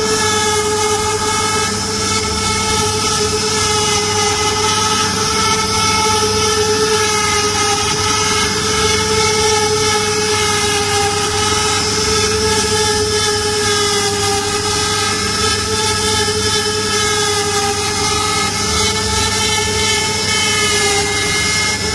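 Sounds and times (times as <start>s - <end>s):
router spindles whining: 0.0s - 21.9s
wood cutting hiss: 0.0s - 21.9s.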